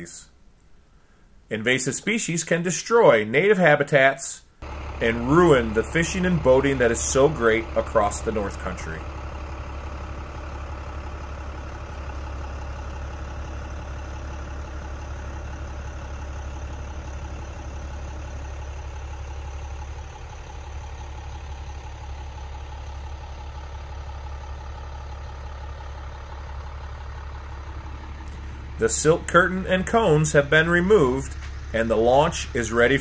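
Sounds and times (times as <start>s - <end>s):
vehicle engine idling hum: 4.6s - 33.0s.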